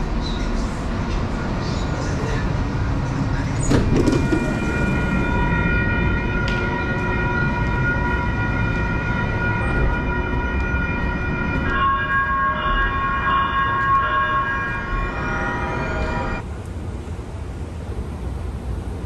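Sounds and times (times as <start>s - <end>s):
train electrical whine: 0.0s - 16.5s.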